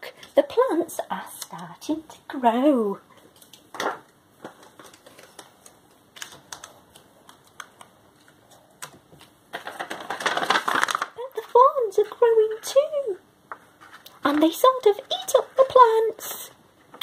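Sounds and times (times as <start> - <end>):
paper rustling: 3.2 - 17.0.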